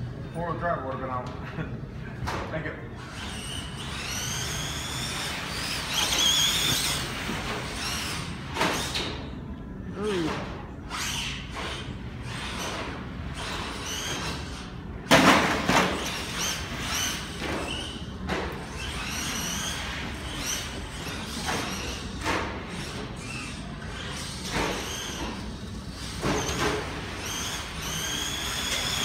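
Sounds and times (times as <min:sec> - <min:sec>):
rc truck motor whine: 0:03.0 - 0:09.3, 0:10.8 - 0:14.8, 0:15.6 - 0:29.0.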